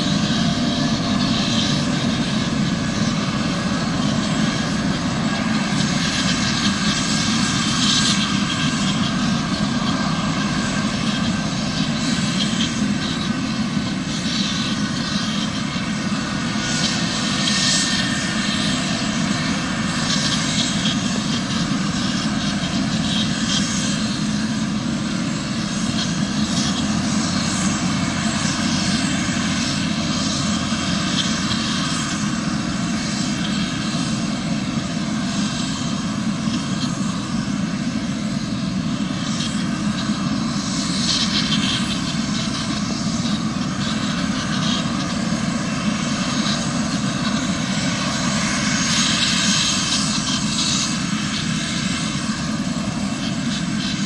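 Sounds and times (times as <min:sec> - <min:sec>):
helicopter rotor and engine noise: 0:00.0 - 0:54.0
helicopter turbine whine: 0:00.0 - 0:54.0.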